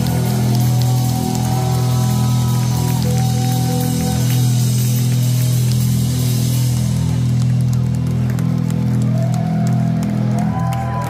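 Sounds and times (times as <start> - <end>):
heavy metal band playing live: 0.0 - 9.5.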